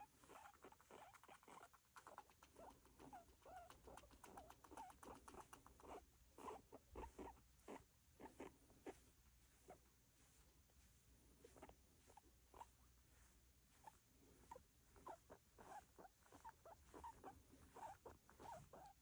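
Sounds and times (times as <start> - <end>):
guinea pig calls: 0.0 - 9.9, 11.4 - 12.9, 13.7 - 19.0.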